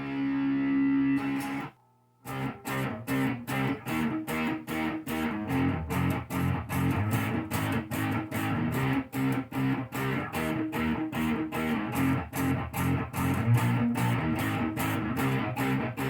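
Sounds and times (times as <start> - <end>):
electric guitar riff: 0.0 - 16.0.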